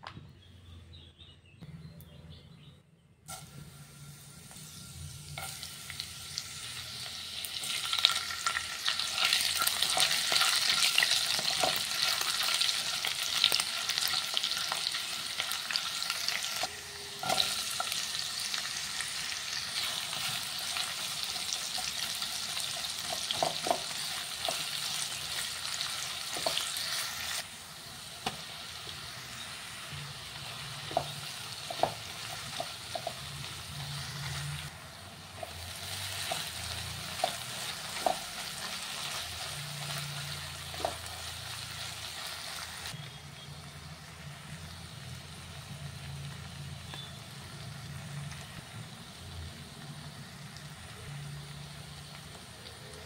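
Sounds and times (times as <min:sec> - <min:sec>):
seeds and garlic sizzling in oil: 0:03.3 - 0:53.0.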